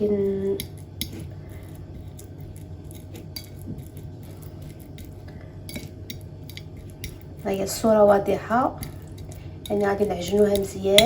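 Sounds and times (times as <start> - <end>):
faint hum: 0.0 - 11.0
utensil clinking against dish: 0.0 - 11.0.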